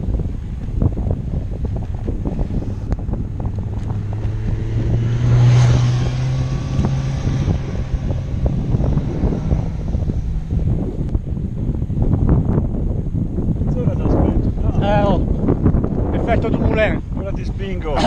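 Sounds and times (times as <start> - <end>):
wind rushing over microphone: 0.0 - 18.0
motorcycle overtaking: 0.8 - 17.9.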